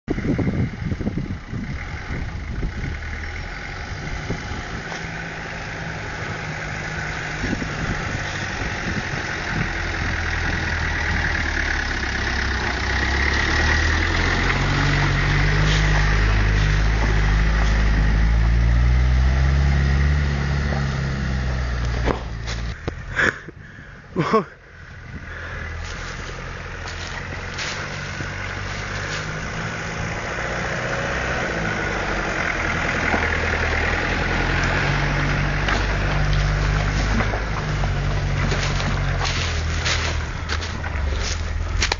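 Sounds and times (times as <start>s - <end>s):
off-road vehicle engine driving: 0.0s - 41.9s.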